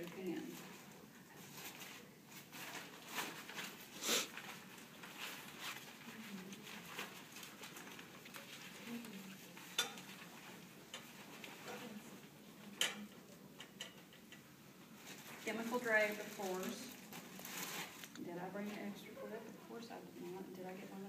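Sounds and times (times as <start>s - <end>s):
plastic drape rustling and crinkling: 0.0s - 12.3s, 14.9s - 21.0s.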